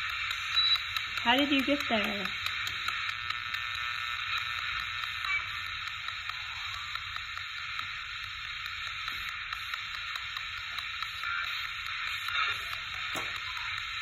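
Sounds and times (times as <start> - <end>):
faint broadcast tones: 0.0 - 14.0
radio static hiss: 0.0 - 14.0.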